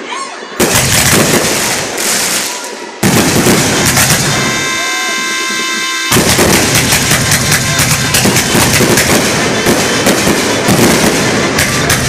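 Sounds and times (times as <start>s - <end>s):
fireworks popping and crackling: 0.6s - 5.4s, 6.0s - 12.0s.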